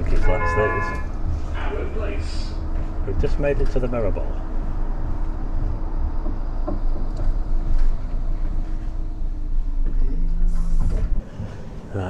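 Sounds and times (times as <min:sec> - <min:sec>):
low hum: 0:00.0 - 0:12.0
tram rumbling on track: 0:00.0 - 0:12.0.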